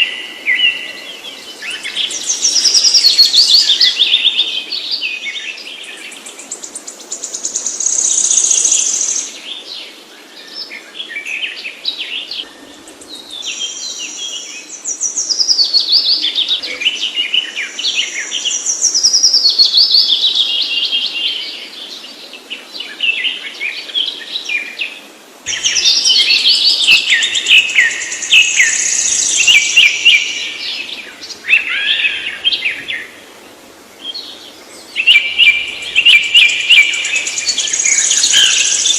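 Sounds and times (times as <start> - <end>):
low background noise: 0.0 - 38.9
songbirds chirping and trilling: 0.0 - 38.9.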